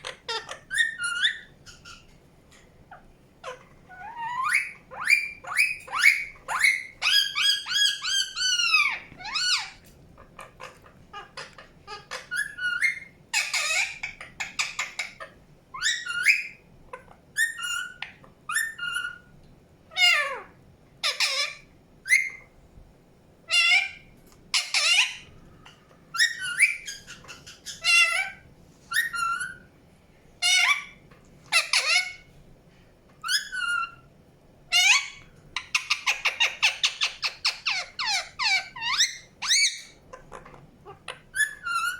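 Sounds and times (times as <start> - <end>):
parakeet chirping and squawking: 0.0 - 2.2, 2.9 - 19.3, 19.9 - 22.4, 23.5 - 29.7, 30.4 - 32.3, 33.2 - 34.1, 34.7 - 41.9.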